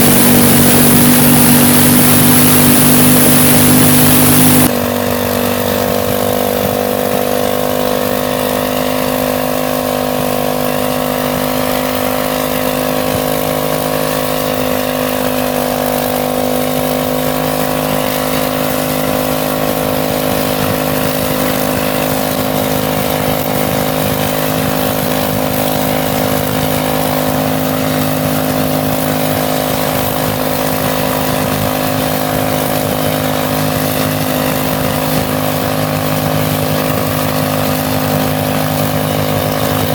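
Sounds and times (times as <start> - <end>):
engine running at full throttle: 0.0 - 39.9.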